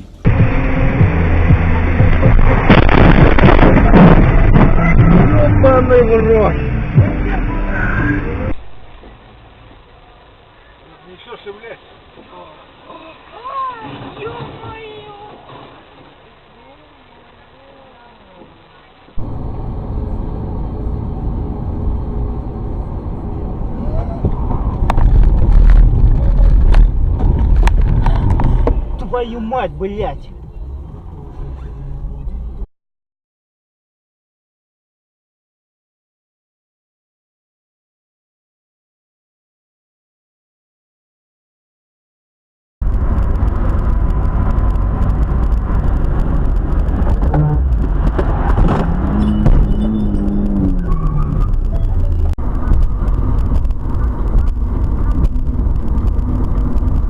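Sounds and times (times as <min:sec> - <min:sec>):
engine and road rumble: 0:00.0 - 0:32.7, 0:42.8 - 0:57.0.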